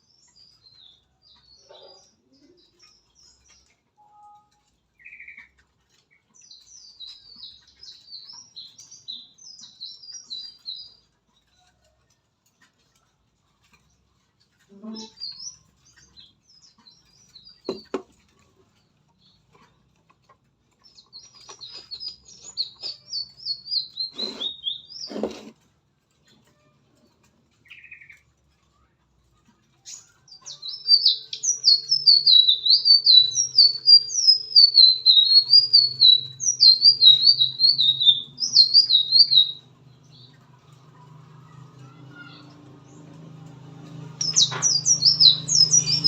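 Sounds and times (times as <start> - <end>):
songbird chirping: 0.0 - 46.0.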